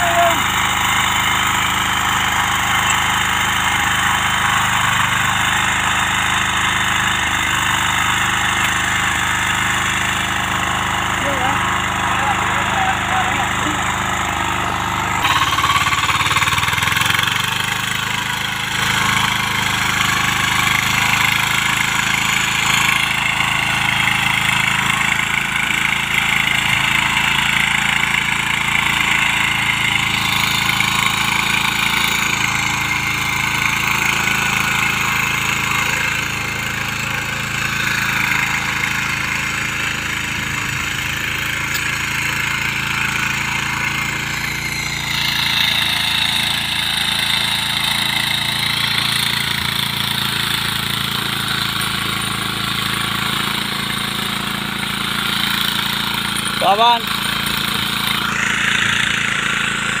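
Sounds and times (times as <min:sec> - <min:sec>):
small tiller engine running: 0:00.0 - 1:00.0
tines working through soil: 0:00.0 - 1:00.0.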